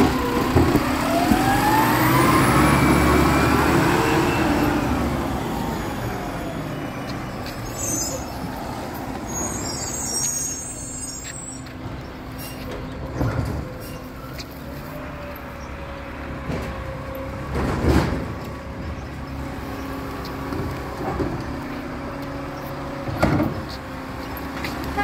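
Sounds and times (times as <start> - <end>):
garbage truck engine pulling away: 0.0 - 25.0.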